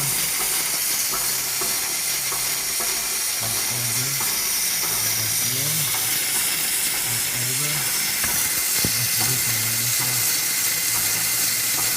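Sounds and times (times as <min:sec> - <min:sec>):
diesel engine hissing: 0:00.0 - 0:11.9.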